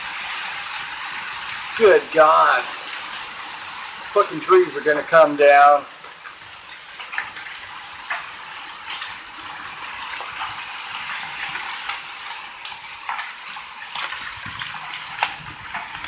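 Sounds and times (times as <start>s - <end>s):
hailstones ticking on hard surfaces: 0.0s - 16.0s
heavy rain pouring: 0.0s - 16.0s.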